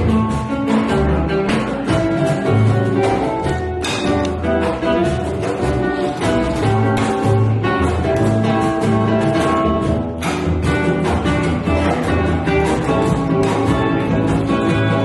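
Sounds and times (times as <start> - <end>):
acoustic guitar: 0.0 - 15.0
hand percussion: 0.0 - 15.0
plucked double bass: 0.0 - 15.0
sharp percussion hit: 1.5 - 15.0.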